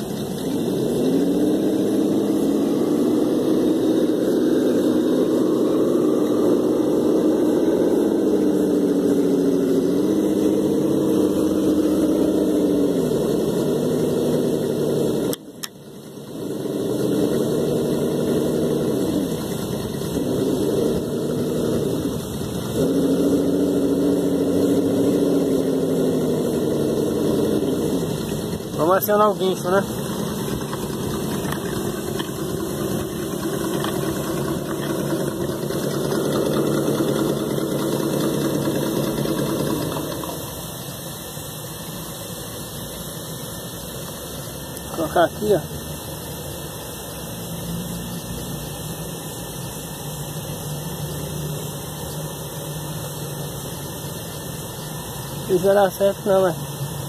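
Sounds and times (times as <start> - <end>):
electric motor and gears whining: 0.0 - 57.0.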